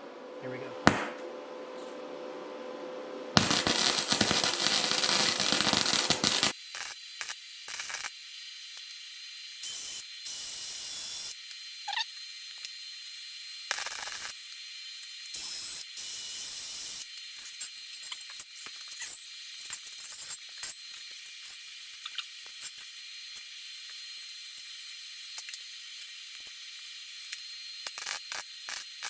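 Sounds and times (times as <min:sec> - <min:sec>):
welding arc crackling and hissing: 0:03.4 - 0:29.0.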